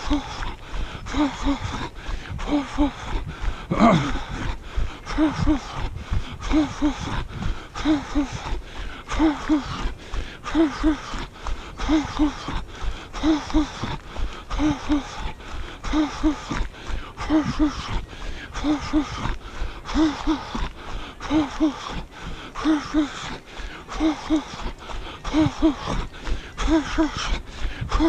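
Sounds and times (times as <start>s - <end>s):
runner breathing: 0.0s - 28.0s.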